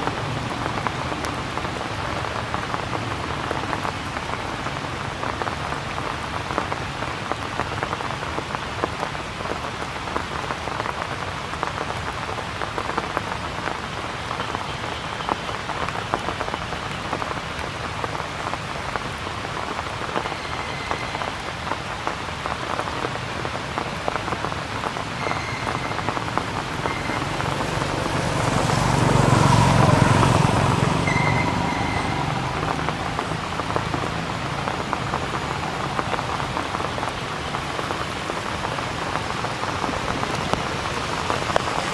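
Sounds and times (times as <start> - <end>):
rain pattering on surfaces: 0.0 - 41.9.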